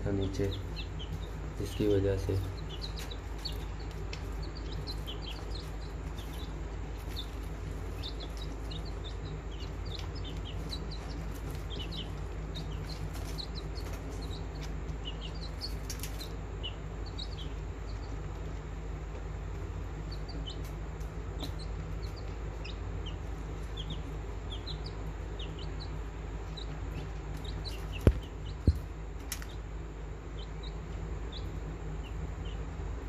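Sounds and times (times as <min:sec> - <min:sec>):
birds chirping: 0:00.0 - 0:33.0
steady low hum: 0:00.0 - 0:33.0.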